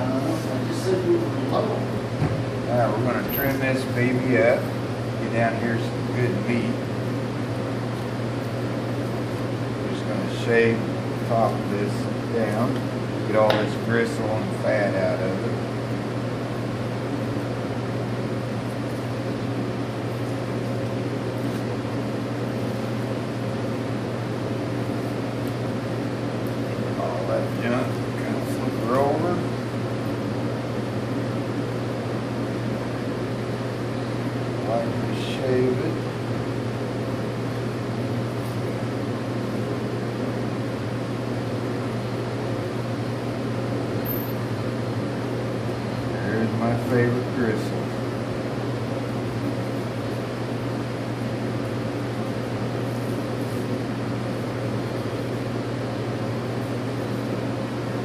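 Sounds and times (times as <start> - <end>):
fan-like hiss: 0.0 - 58.0
machine hum: 0.0 - 58.0.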